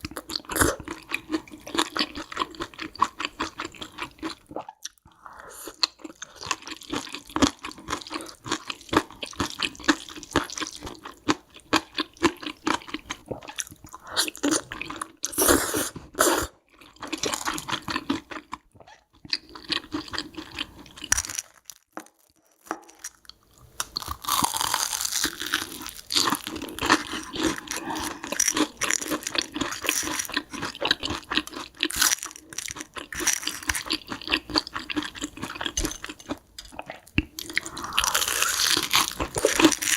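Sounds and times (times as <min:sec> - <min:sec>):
close-miked chewing noodles: 0:00.0 - 0:21.1, 0:24.0 - 0:39.9.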